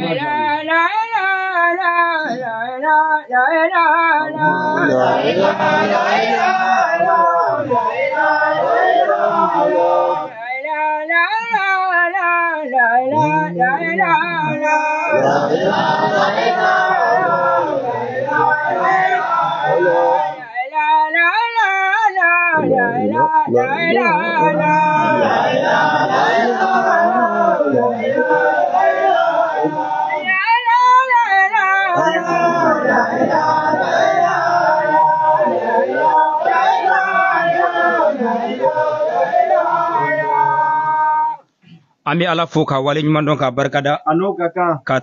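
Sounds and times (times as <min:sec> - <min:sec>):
men chanting: 0:00.0 - 0:02.6, 0:03.6 - 0:41.4.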